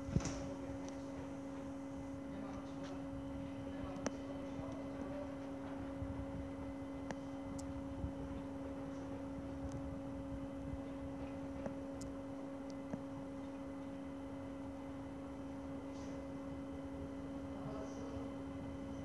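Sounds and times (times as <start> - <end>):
two-tone hum: 0.0 - 19.0.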